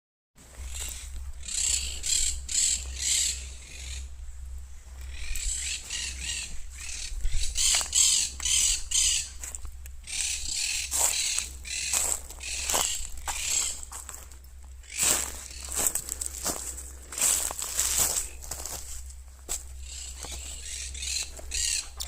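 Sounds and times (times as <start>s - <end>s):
parakeets squawking: 0.6s - 4.1s, 5.0s - 14.2s, 14.8s - 18.9s, 19.5s - 22.0s.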